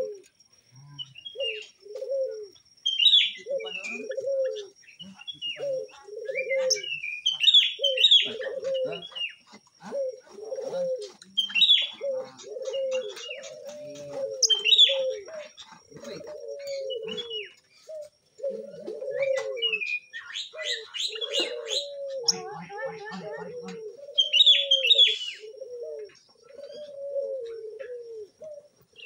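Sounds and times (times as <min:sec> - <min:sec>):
lovebirds chirping: 0:00.0 - 0:29.0
low cooing calls: 0:00.0 - 0:29.0.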